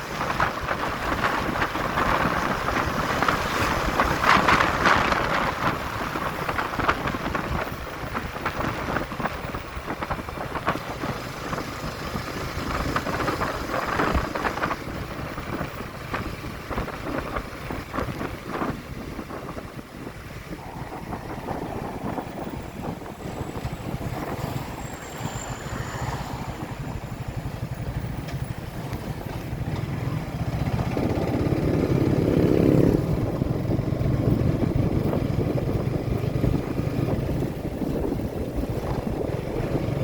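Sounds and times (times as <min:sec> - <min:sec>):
motorcycle engine hum: 0:00.0 - 0:40.0
road noise: 0:00.0 - 0:40.0
wind buffeting microphone: 0:00.0 - 0:40.0.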